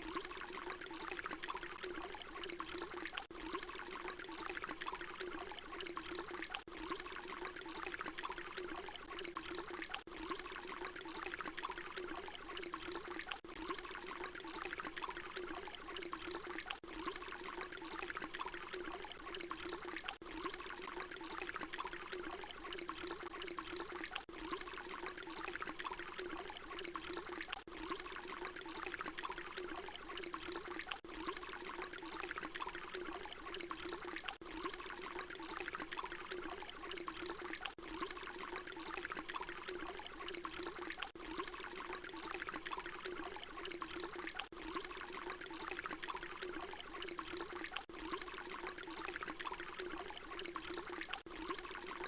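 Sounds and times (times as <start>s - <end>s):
water pouring in a stream: 0.0s - 52.0s.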